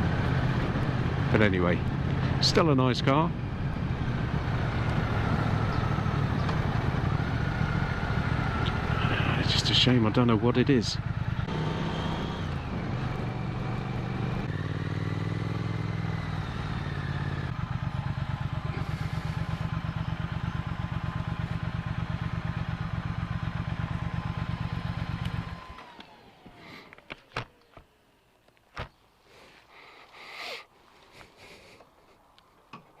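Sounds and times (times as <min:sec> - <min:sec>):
motorcycle engine running: 0:00.0 - 0:26.6.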